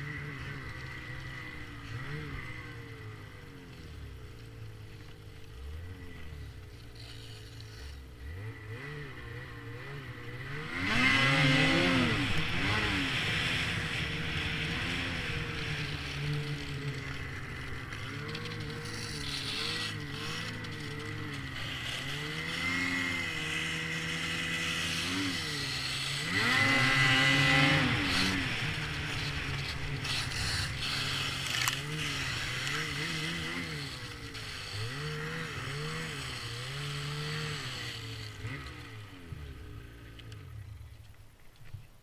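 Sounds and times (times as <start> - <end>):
snowmobile engine revving: 0.0 - 40.7.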